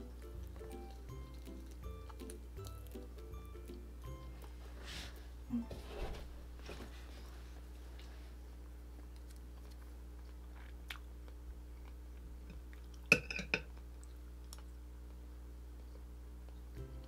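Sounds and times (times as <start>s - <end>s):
quiet chewing: 0.0s - 5.8s, 7.0s - 16.8s.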